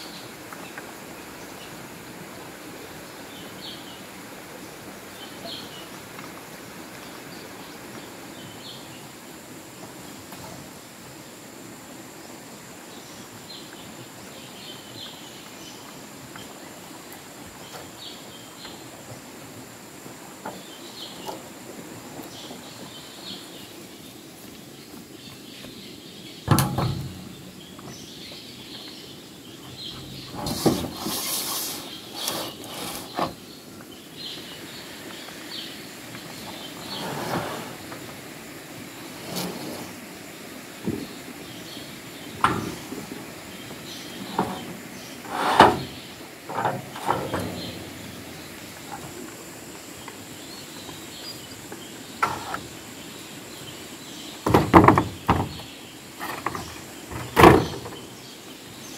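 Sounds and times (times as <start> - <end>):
high insect whine: 0.0 - 58.9.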